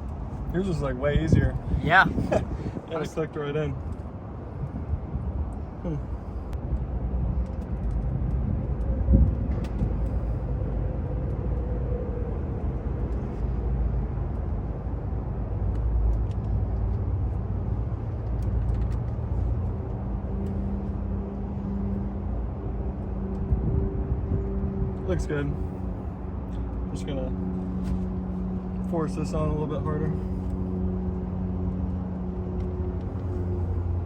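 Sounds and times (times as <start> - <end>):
vehicle rumble: 0.0 - 34.0.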